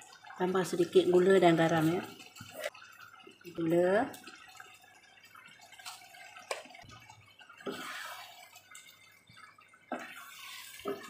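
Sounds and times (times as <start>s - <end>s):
sauce simmering and bubbling: 0.0s - 11.0s
spatula stirring sauce: 0.1s - 11.0s.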